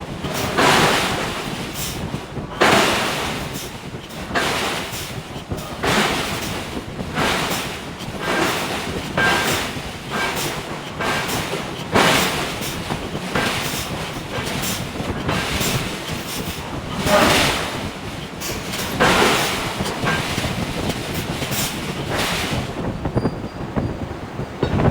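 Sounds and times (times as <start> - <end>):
forging hammer striking steel: 0.3 - 22.8.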